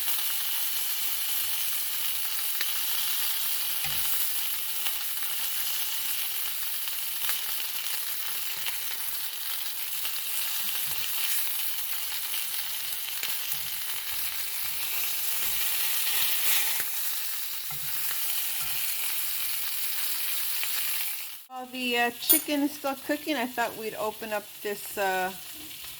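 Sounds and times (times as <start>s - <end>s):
chicken sizzling in a pan: 0.0s - 21.5s, 22.3s - 25.9s.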